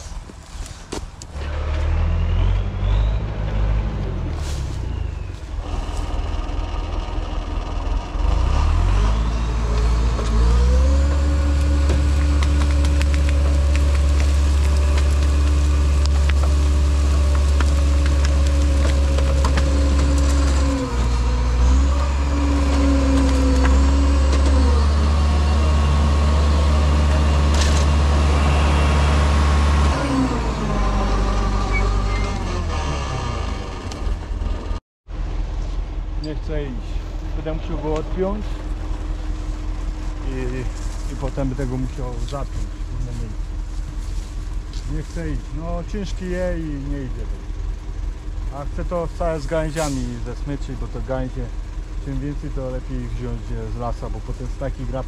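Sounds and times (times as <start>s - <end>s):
diesel engine revving: 1.3s - 55.0s.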